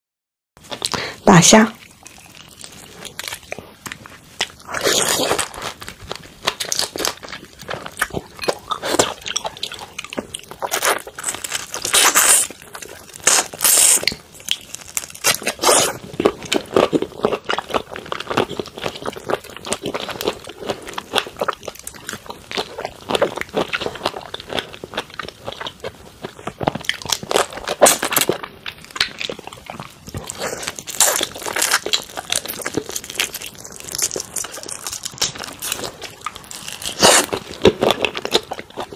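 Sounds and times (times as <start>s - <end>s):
chewing prawns: 1.8s - 38.9s.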